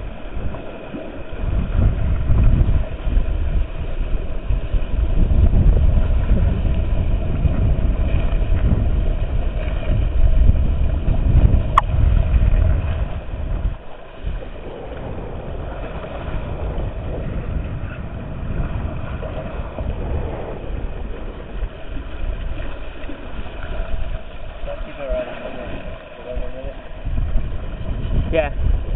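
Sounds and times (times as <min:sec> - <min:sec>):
boat engine rumbling: 0:00.0 - 0:28.9.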